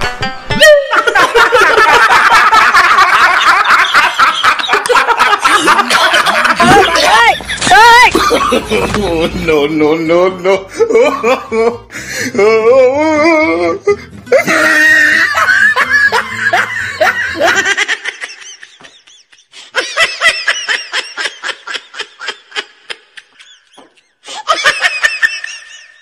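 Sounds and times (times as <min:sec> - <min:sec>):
loud laughter: 0:00.6 - 0:09.6, 0:10.4 - 0:11.9, 0:12.5 - 0:26.0.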